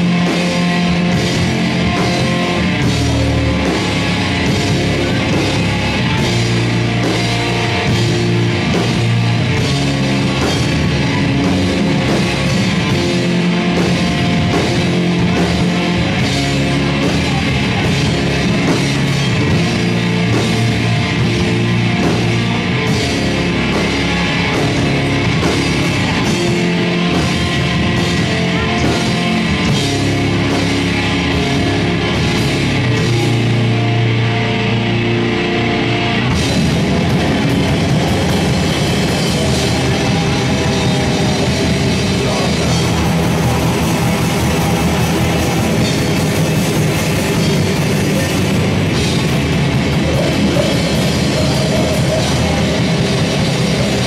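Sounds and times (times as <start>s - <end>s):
metal band playing: 0.0s - 54.0s.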